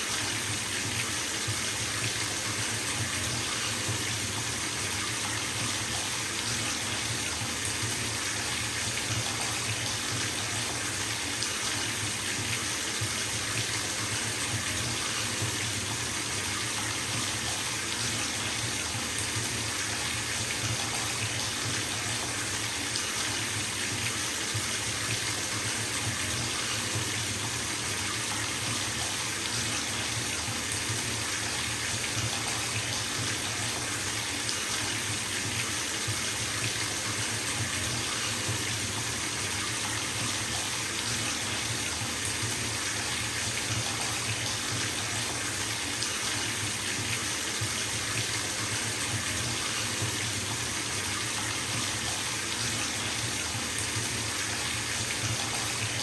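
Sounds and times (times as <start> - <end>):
tap water filling bathtub: 0.0 - 56.0.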